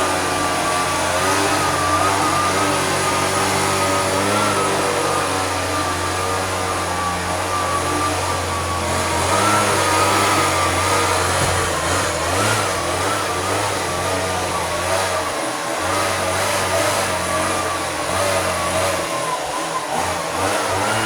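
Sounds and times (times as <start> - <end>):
leaf blower running: 0.0 - 21.0.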